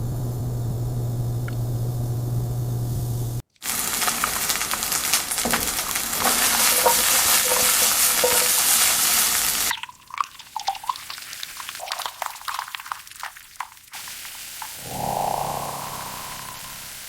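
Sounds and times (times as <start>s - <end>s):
sizzling in a cooking pot: 0.1s - 17.0s.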